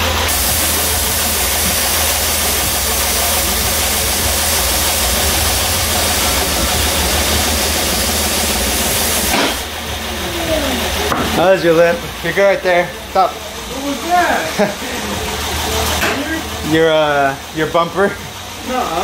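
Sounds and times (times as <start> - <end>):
air suspension hissing: 0.0 - 19.0
car engine idling: 0.0 - 19.0.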